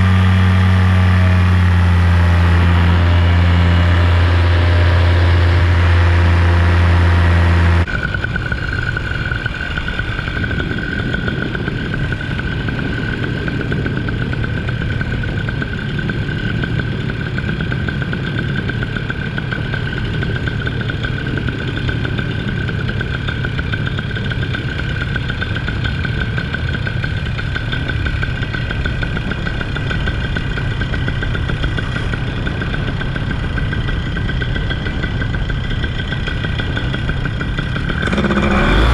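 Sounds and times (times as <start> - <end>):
loud low hum: 0.0 - 38.9
motor engine running: 0.0 - 38.9.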